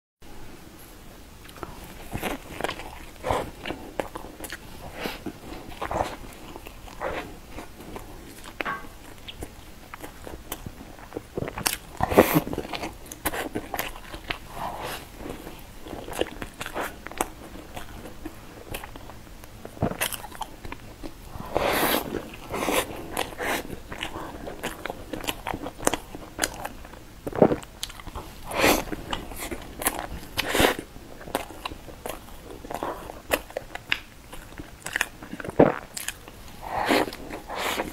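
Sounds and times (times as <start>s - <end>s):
person chewing crunchy pastry: 1.4s - 37.9s.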